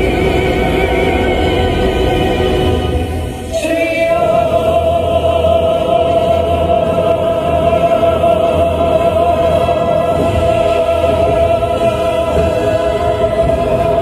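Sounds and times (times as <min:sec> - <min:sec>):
orchestral music over loudspeakers: 0:00.0 - 0:14.0.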